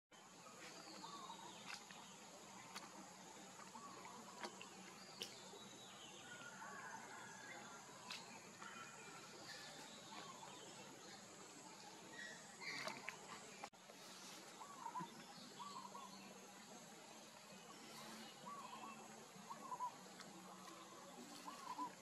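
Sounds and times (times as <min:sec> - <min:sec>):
high insect hum: 0:00.2 - 0:22.0.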